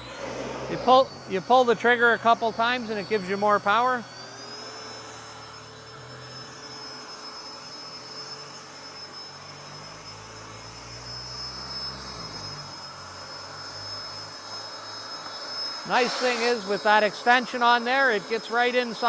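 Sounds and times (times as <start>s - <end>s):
leaf blower running: 0.0s - 19.0s.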